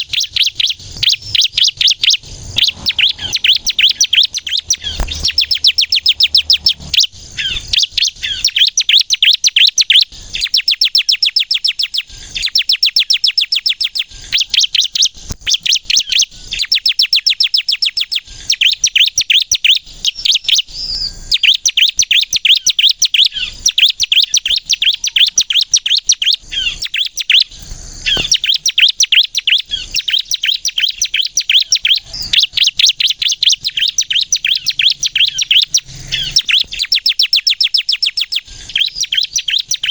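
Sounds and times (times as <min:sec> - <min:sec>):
bird singing rapid sharp notes: 0:00.0 - 0:39.9.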